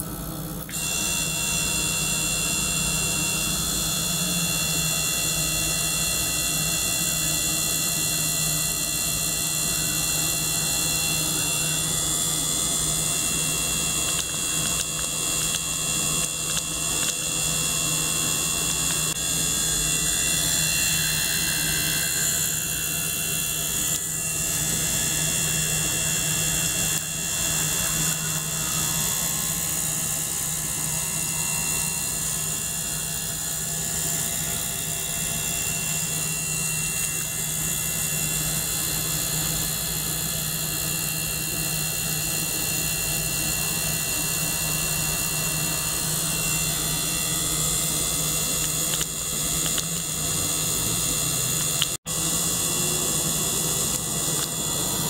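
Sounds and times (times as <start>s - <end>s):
ultrasonic cleaner whine and hiss: 0.0s - 55.0s.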